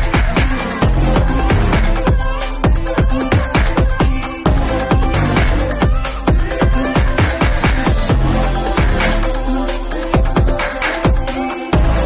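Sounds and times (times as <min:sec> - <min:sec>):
fast drum beat: 0:00.0 - 0:12.0
sustained bass line: 0:00.0 - 0:12.0.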